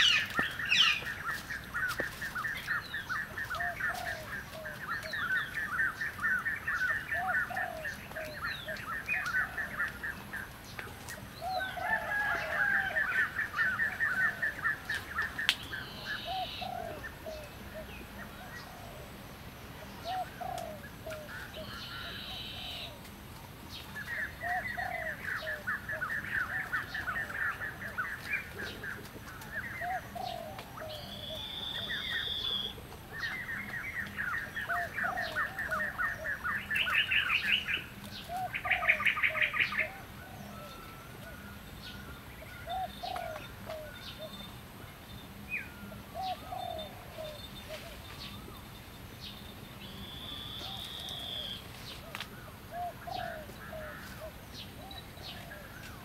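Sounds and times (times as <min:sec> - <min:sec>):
birds singing rapid trills: 0:00.0 - 0:18.9, 0:23.7 - 0:56.0.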